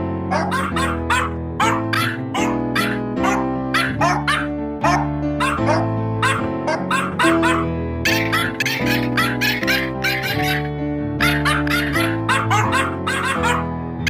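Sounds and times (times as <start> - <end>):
pitched dog barks melody: 0.0 - 14.0.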